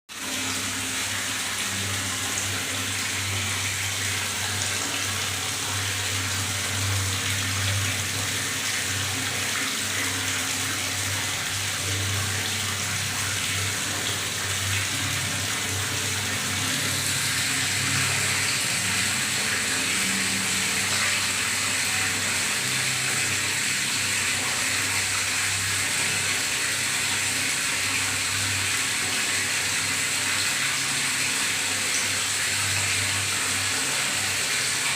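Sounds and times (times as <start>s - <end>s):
water running into bathtub: 0.1s - 34.9s.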